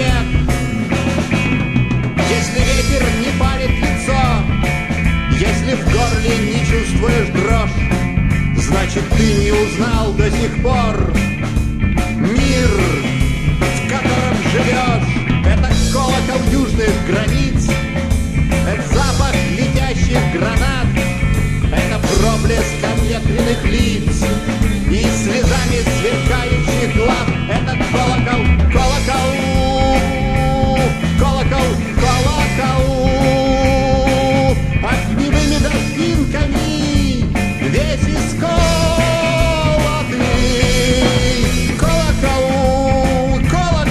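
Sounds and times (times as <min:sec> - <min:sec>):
bass guitar: 0:00.0 - 0:43.9
drums: 0:00.0 - 0:43.9
lead electric guitar: 0:00.0 - 0:43.9
rhythm guitar: 0:00.0 - 0:43.9.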